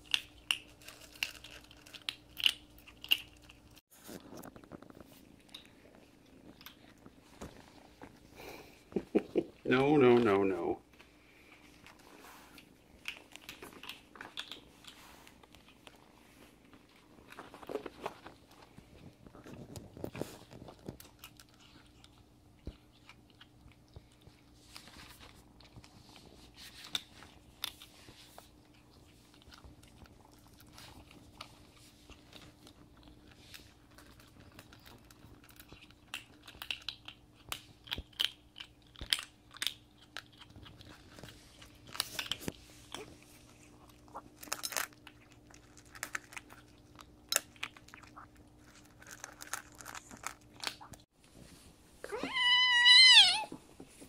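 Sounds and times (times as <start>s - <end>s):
kittens crunching dry kibble: 0.0s - 54.0s.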